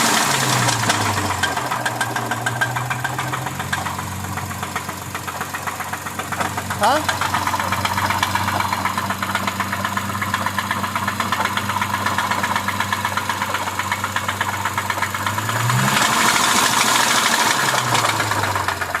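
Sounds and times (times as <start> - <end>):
car engine with knocking tick: 0.0 - 19.0.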